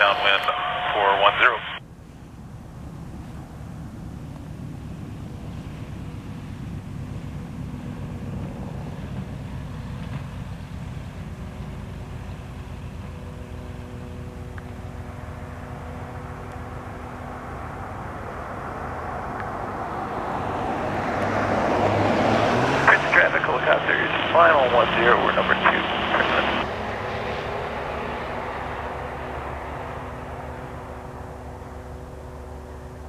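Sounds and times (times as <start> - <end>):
propeller plane engine drone: 0.0 - 33.0.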